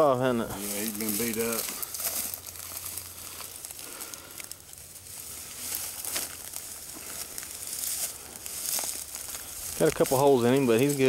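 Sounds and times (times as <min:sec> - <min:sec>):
dry brush and leaves rustling: 0:00.0 - 0:11.0.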